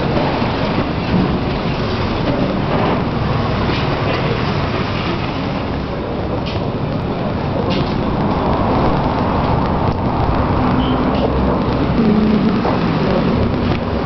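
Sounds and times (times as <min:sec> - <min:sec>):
loud road traffic din: 0:00.0 - 0:14.0.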